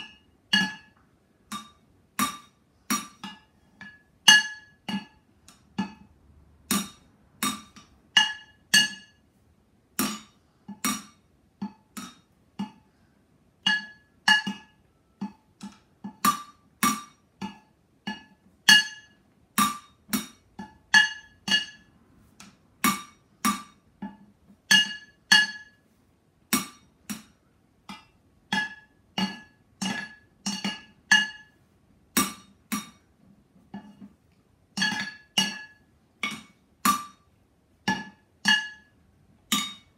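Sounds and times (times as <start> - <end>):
drumsticks beating on cooking pots: 0.0 - 9.2, 10.0 - 13.0, 13.6 - 25.8, 26.5 - 33.1, 34.7 - 39.9.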